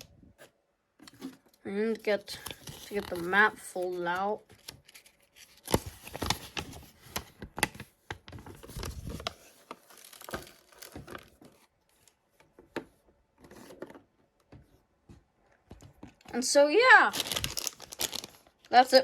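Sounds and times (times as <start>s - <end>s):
paper map rustling and crinkling: 0.0s - 19.0s.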